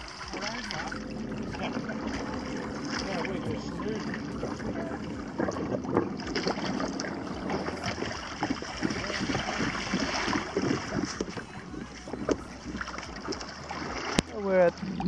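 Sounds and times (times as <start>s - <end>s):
water slapping against hull: 0.0s - 15.0s
wind on microphone: 0.2s - 15.0s.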